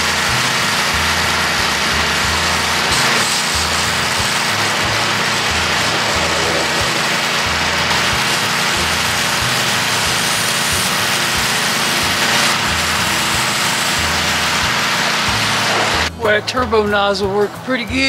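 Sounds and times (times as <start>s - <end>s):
water spraying on metal hull: 0.0s - 16.1s
pressure washer motor running: 0.0s - 16.2s.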